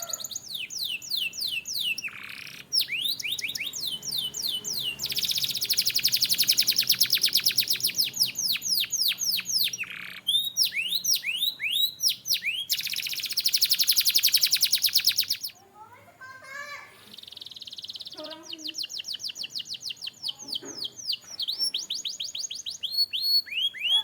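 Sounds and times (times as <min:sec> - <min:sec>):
canary fast trills: 0:00.0 - 0:24.0
canary singing: 0:00.0 - 0:24.0.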